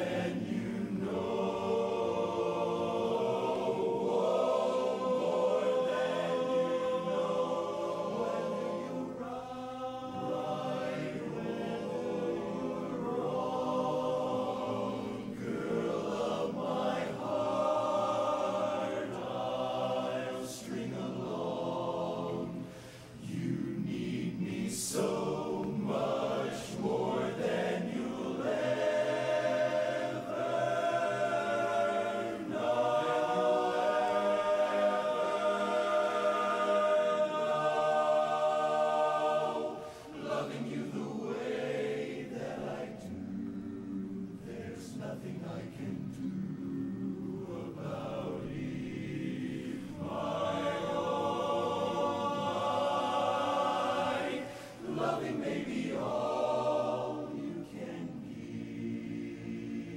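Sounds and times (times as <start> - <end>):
men's chorus singing a cappella: 0.0 - 59.9.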